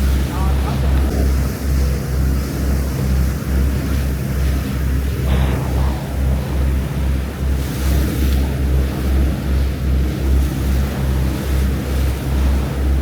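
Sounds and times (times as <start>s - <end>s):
ferry engines droning: 0.0s - 13.0s
sea water rushing along hull: 0.0s - 13.0s
wind buffeting microphone: 0.0s - 13.0s.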